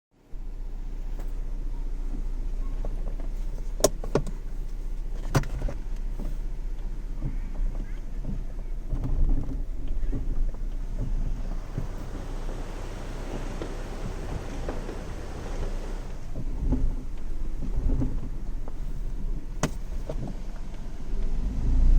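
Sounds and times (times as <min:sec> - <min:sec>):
car engine running: 0:00.2 - 0:21.9.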